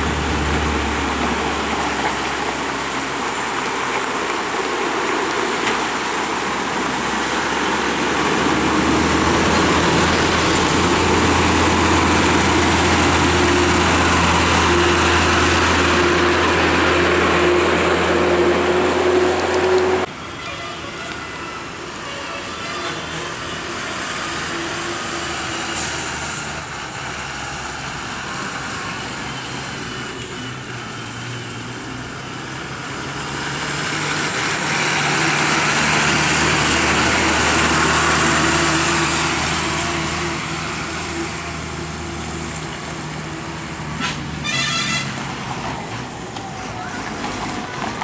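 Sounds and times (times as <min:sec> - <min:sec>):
lorry diesel engine: 0:00.0 - 0:48.0.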